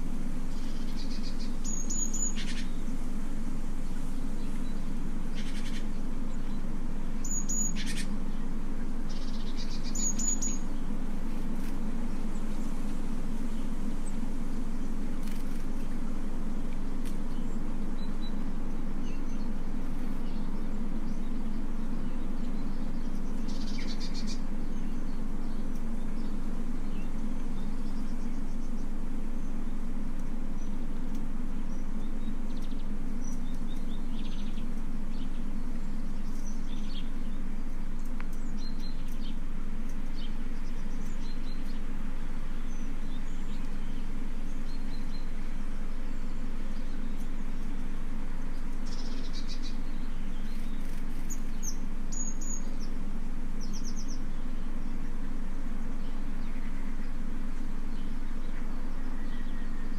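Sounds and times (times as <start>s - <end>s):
birds chirping: 0.0s - 59.9s
steady low hum: 0.0s - 59.9s.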